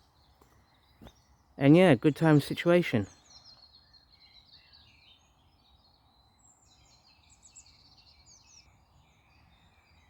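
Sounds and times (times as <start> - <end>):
small birds chirping and trilling: 0.0 - 10.0.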